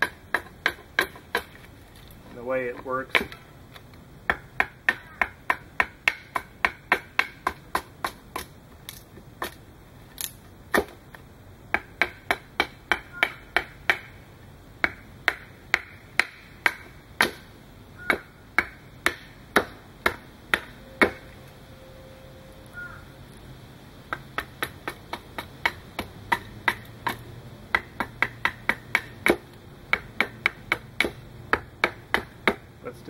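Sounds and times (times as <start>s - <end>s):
hatchet chopping wood: 0.0s - 1.7s, 2.7s - 3.4s, 4.3s - 9.6s, 10.2s - 14.2s, 14.8s - 21.2s, 24.1s - 32.8s.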